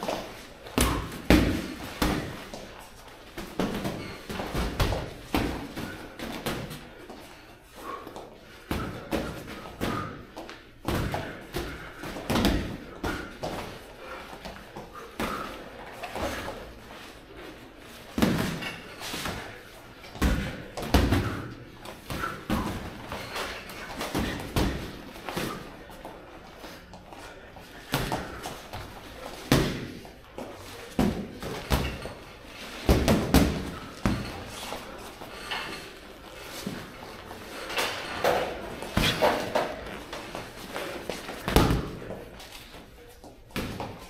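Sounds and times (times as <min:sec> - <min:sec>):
footwork on ring canvas: 0:00.0 - 0:44.0.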